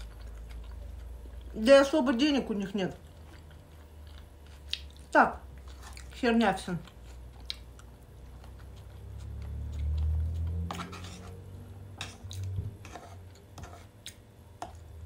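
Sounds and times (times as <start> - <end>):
chewing soft food: 0.0 - 1.6, 2.9 - 11.4, 12.0 - 12.6, 13.2 - 15.0.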